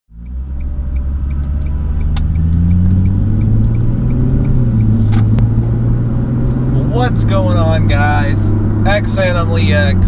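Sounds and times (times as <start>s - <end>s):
car engine accelerating: 0.1s - 10.0s.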